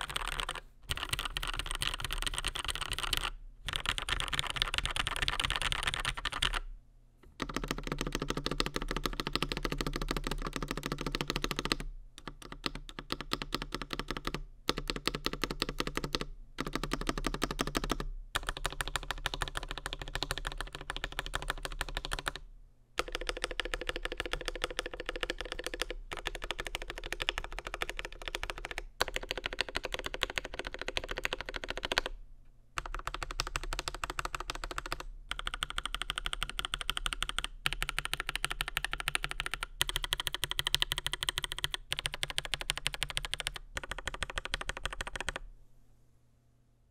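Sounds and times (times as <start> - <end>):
mechanical keyboard clacking: 0.0 - 6.6, 7.3 - 22.4, 23.0 - 32.1, 32.8 - 45.4.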